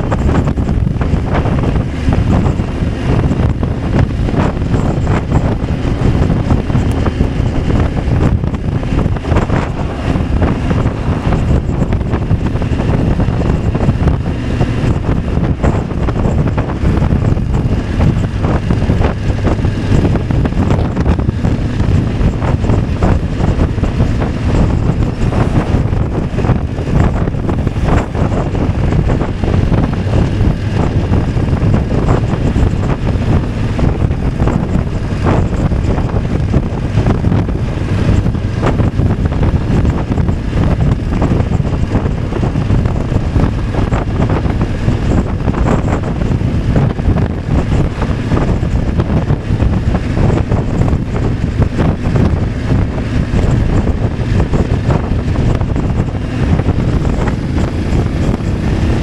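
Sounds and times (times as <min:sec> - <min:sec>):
motorcycle engine: 0:00.0 - 0:59.0
road noise: 0:00.0 - 0:59.0
wind buffeting microphone: 0:00.0 - 0:59.0.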